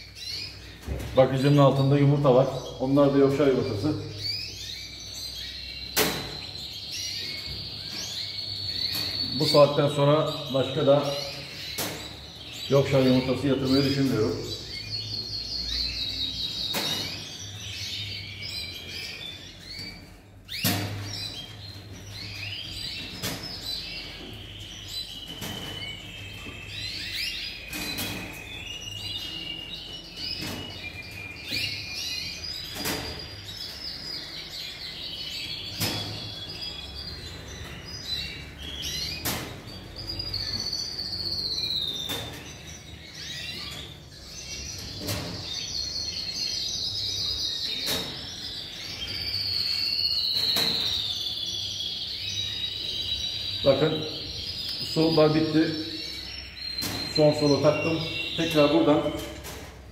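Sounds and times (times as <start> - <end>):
canaries chirping and singing: 0.0 - 59.9.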